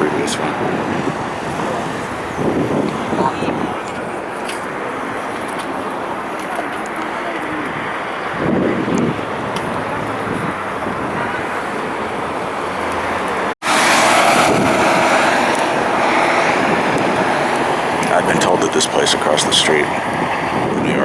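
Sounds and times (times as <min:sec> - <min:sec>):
passing car traffic: 0:00.0 - 0:21.0
wind buffeting microphone: 0:00.0 - 0:21.0.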